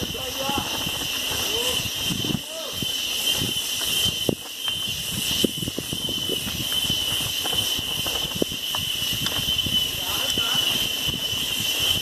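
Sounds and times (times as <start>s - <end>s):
cicadas droning: 0.0s - 12.0s
mountain bike knocking and rattling: 0.0s - 12.0s.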